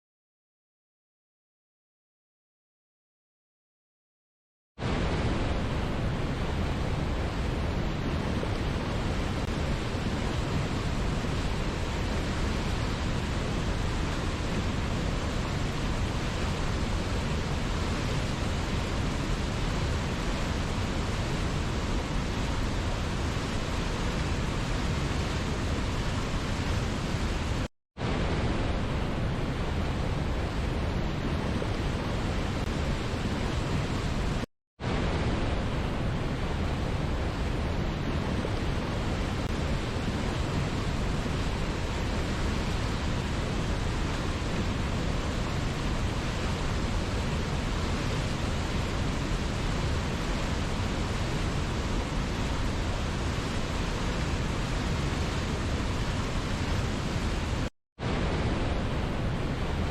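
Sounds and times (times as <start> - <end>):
waterfall roaring: 4.8 - 59.9.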